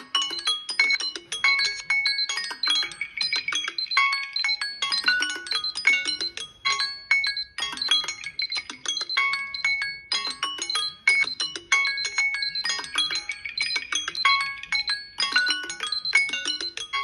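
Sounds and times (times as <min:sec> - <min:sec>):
phone timer alarm chimes: 0:00.0 - 0:17.0.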